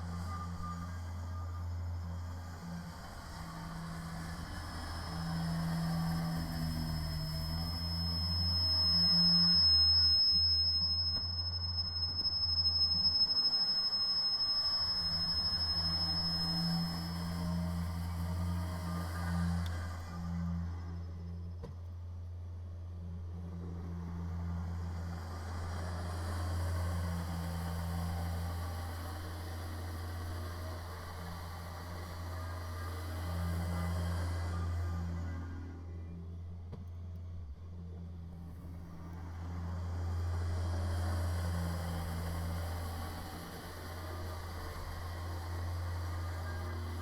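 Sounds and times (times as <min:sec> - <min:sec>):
low electrical hum: 0:00.0 - 0:47.0
tractor engine with snow blower: 0:00.0 - 0:47.0.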